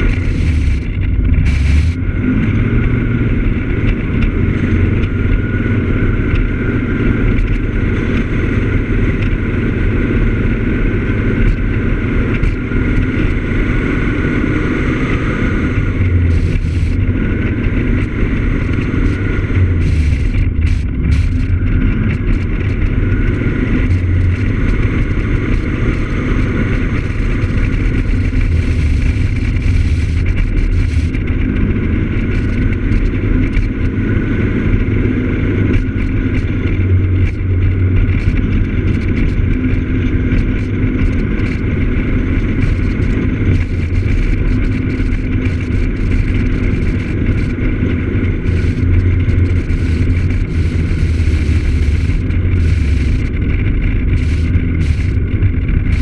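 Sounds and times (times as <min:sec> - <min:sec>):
scooter engine running: 0:00.0 - 0:56.0
wind and road noise: 0:00.0 - 0:56.0
wind flutter on microphone: 0:00.0 - 0:56.0.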